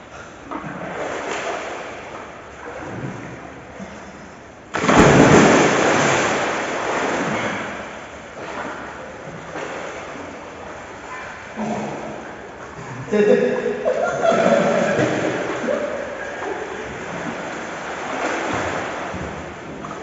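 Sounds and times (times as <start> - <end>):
pool water splashing: 0.0 - 20.0.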